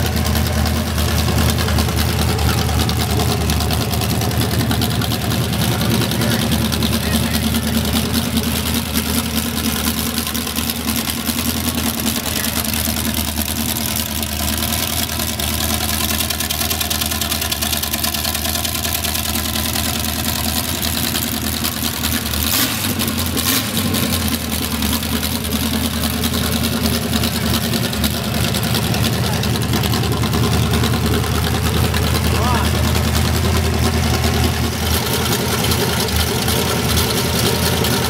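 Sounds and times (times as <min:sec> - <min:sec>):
boat engine idling: 0:00.0 - 0:38.0.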